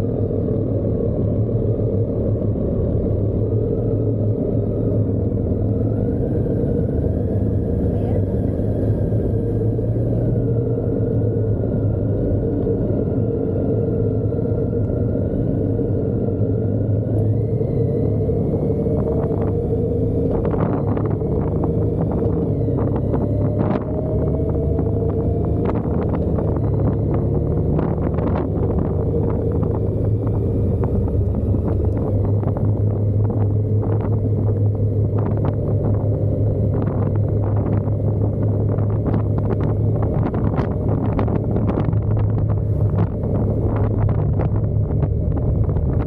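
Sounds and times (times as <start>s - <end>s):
motorcycle running: 0.0s - 46.0s
wind buffeting microphone: 0.0s - 46.0s.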